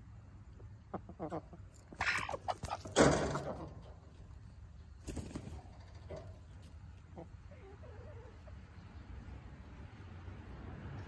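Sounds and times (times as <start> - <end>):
chickens clucking: 0.2 - 9.4.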